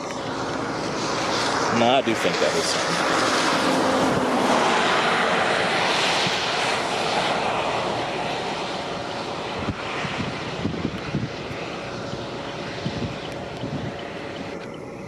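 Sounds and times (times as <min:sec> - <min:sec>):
wind around a car: 0:00.0 - 0:15.0.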